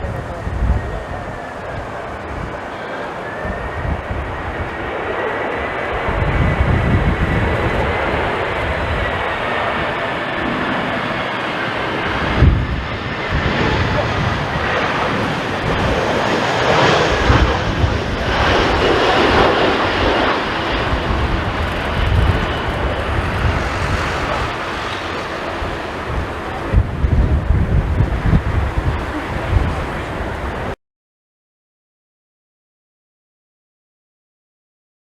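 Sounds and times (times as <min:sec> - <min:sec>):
jet engines roaring: 0:00.0 - 0:30.8
wind rumbling on microphone: 0:00.0 - 0:30.8.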